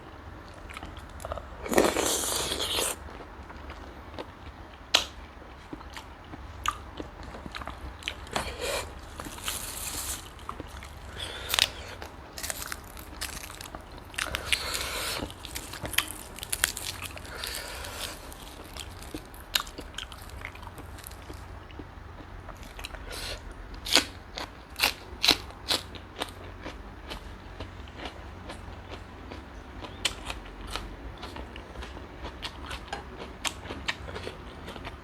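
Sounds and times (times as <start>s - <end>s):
person chewing crunchy food: 0.4s - 35.0s.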